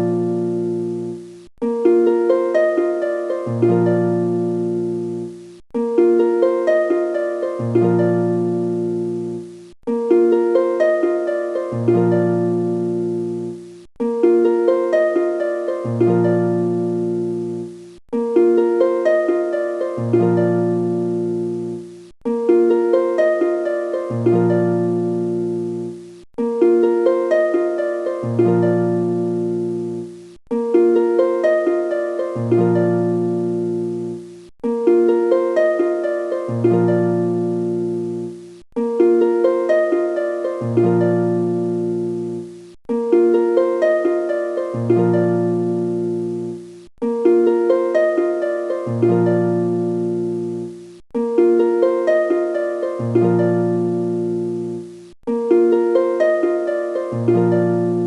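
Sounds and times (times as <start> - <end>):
plucked-string instrumental loop: 0.0 - 58.0.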